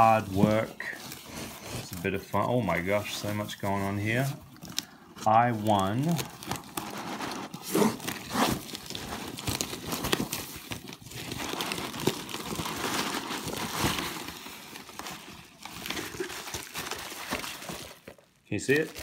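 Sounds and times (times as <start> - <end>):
paper and bubble wrap rustling: 0.0 - 19.0.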